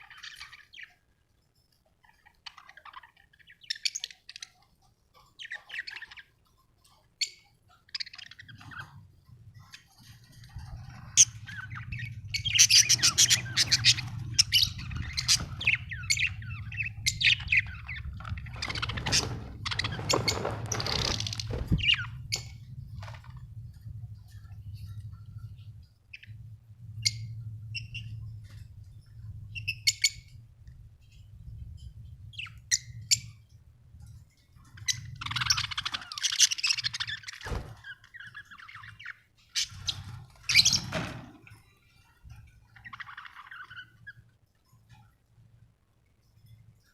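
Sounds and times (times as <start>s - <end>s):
budgerigars chirping and chattering: 0.0s - 1.1s, 2.0s - 23.3s, 24.2s - 30.5s, 32.0s - 44.9s
low steady hum: 0.0s - 46.9s.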